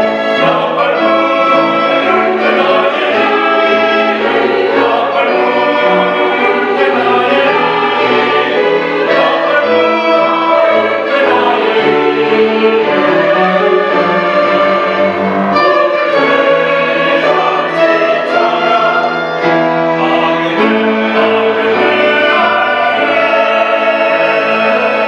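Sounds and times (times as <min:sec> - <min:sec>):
choir singing a hymn: 0:00.0 - 0:25.0
violins: 0:00.0 - 0:25.0.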